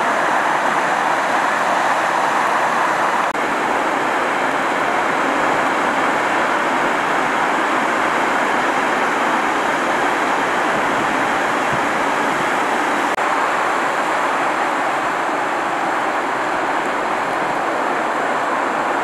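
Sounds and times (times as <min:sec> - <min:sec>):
sea surf roaring: 0:00.0 - 0:19.0.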